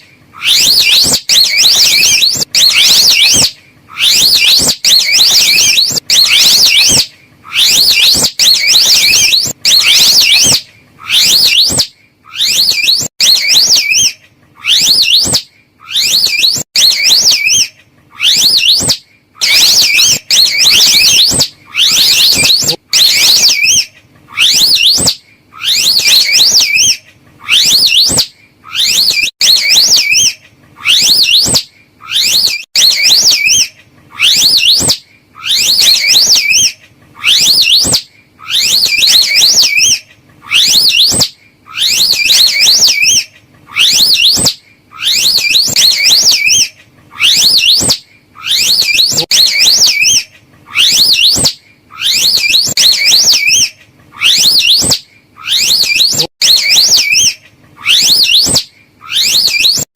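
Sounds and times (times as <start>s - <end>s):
warbling whistle call: 0.4s - 59.9s.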